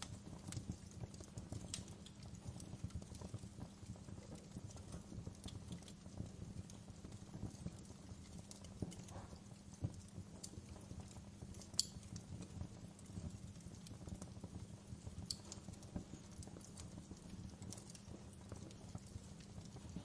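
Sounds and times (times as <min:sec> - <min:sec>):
fire crackling: 0:00.0 - 0:20.0
sharp pops from fire: 0:00.0 - 0:20.0.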